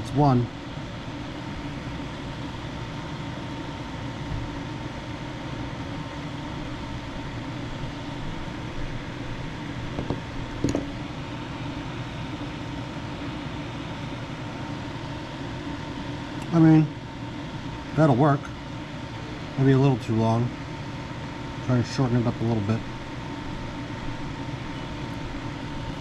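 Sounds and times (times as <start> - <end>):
fan-like hum: 0.0 - 26.0.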